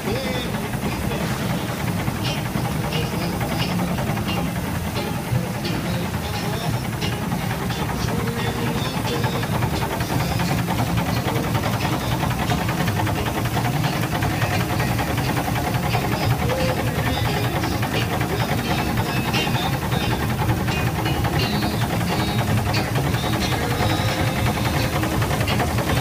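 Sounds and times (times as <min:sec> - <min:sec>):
steam engine beating: 0:00.0 - 0:26.0.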